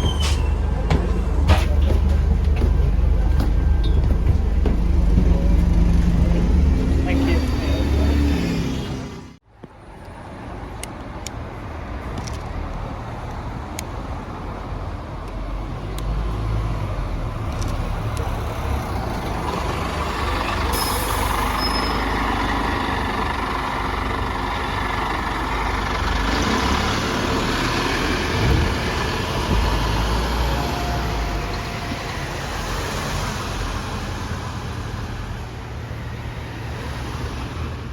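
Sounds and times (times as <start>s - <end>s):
bus engine pulling away: 0.0s - 9.4s, 12.3s - 37.9s.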